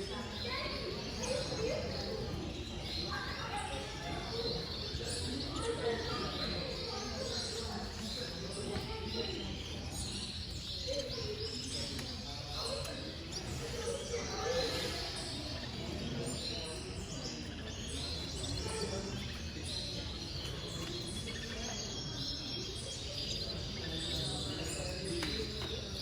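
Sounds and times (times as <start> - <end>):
canaries chirping: 0.0 - 26.0.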